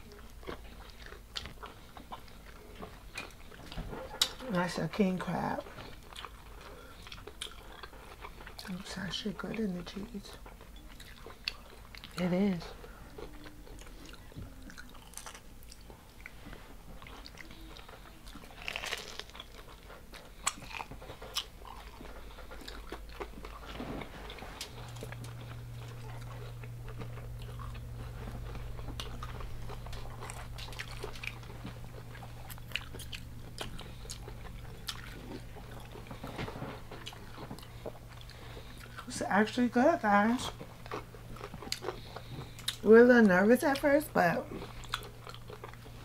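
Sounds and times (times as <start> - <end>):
crunchy biting and chewing: 0.0 - 4.4, 5.6 - 8.8, 10.4 - 16.4, 17.0 - 39.1, 40.4 - 42.9, 44.4 - 46.0
steady low hum: 0.0 - 46.0.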